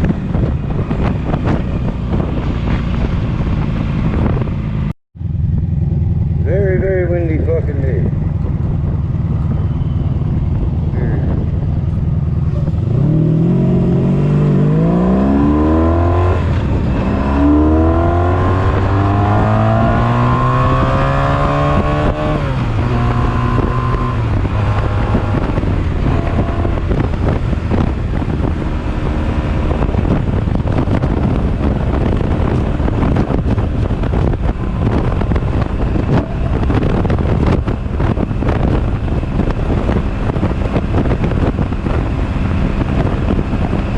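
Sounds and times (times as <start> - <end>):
motorcycle engine revving: 0.0 - 43.9
wind buffeting microphone: 0.0 - 43.9.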